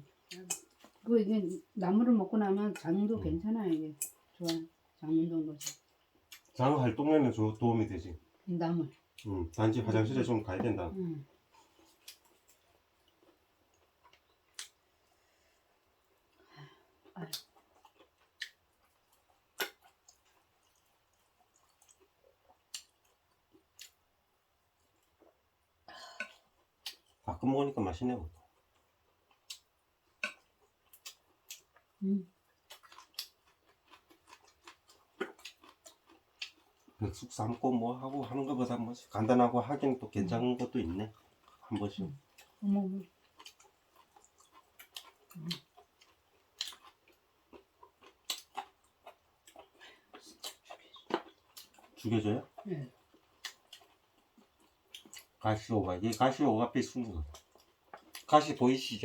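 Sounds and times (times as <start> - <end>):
soft chewing: 0.0 - 1.9, 2.6 - 6.9, 7.9 - 59.0.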